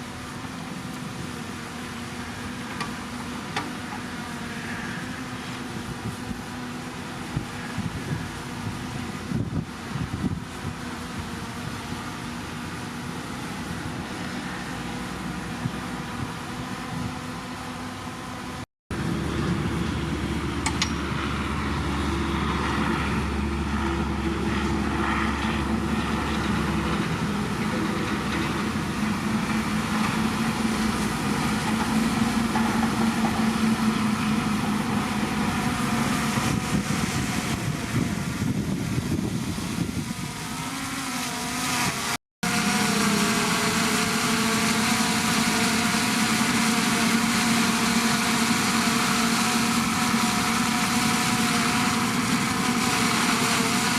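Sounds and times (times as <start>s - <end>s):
heavy machinery diesel engines: 0.0s - 40.7s, 42.4s - 53.9s.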